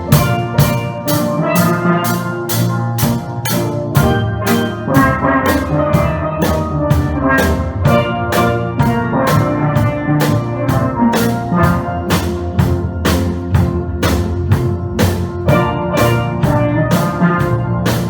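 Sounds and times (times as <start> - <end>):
drum kit beat: 0.0 - 18.0
steelpans playing melody: 0.0 - 18.0.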